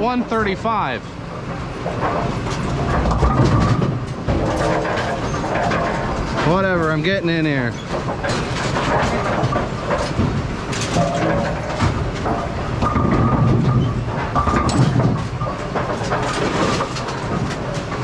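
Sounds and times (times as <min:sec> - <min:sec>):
pinsetter machinery clatter: 0:00.0 - 0:18.0.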